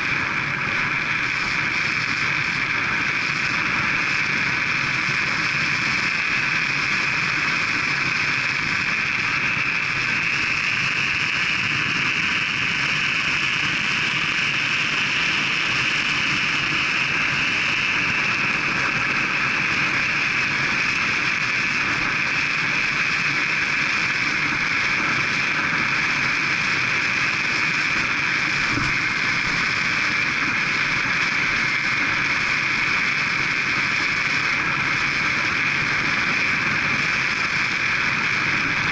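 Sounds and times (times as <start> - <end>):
bicycle tyre hum: 0.0 - 38.9
wind rushing on microphone: 0.0 - 38.9.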